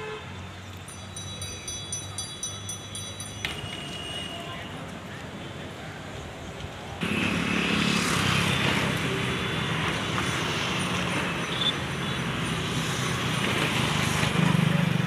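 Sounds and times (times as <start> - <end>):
rushing noise of track travel: 0.0 - 15.0.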